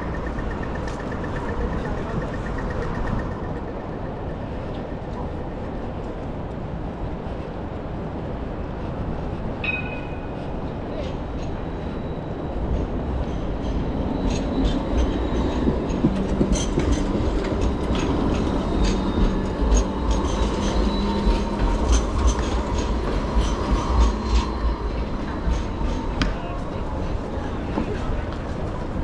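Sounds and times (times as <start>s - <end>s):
tram electric whine: 0.0s - 29.0s
tram rolling rumble: 0.0s - 29.0s
wheels clicking on rails: 0.0s - 29.0s.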